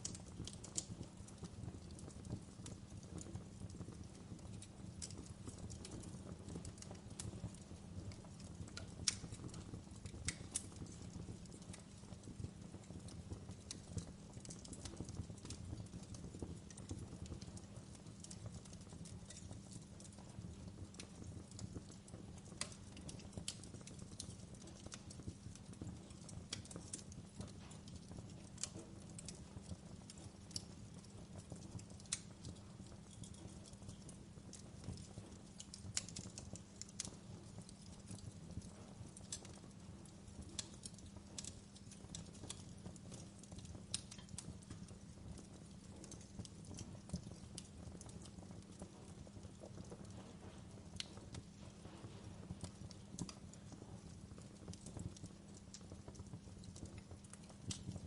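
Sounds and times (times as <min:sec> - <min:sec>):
log fire pops and snaps: 0:00.0 - 0:58.0
low rumble of flames: 0:00.0 - 0:58.0.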